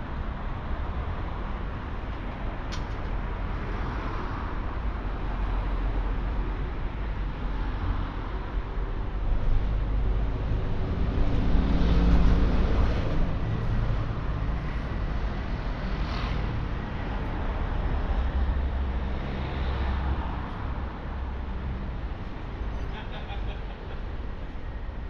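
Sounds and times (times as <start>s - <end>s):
street hum: 0.0s - 25.0s
vehicles passing: 0.0s - 25.0s.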